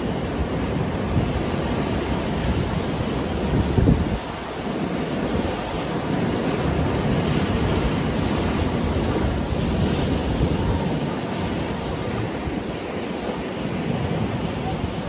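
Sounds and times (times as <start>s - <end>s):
surf washing over rocks: 0.0s - 15.0s
wind buffeting microphone: 0.0s - 15.0s.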